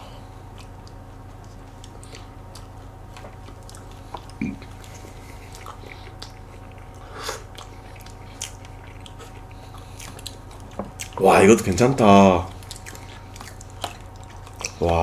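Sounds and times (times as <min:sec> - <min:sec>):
faint steady hum: 0:00.0 - 0:15.0
wet chewing sounds: 0:00.0 - 0:15.0.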